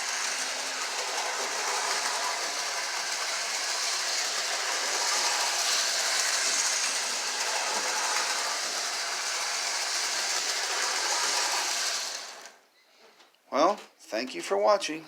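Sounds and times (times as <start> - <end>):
toy train electric motor whirring: 0.0 - 12.6
wheels running over rails: 0.0 - 12.6.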